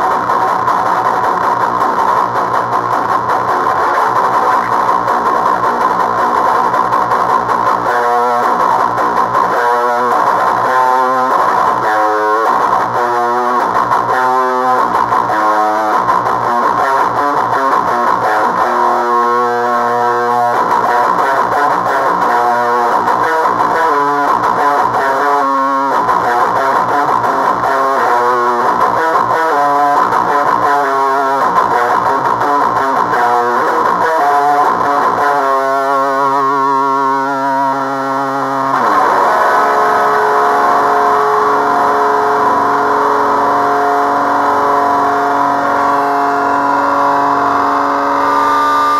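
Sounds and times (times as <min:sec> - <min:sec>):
heavily distorted electric guitar: 0:00.0 - 0:48.9.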